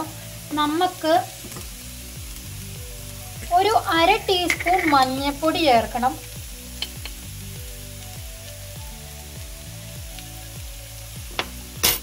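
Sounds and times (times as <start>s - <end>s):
background music with steady beat: 0.0s - 12.0s
vegetables sizzling in frying pan: 0.0s - 12.0s.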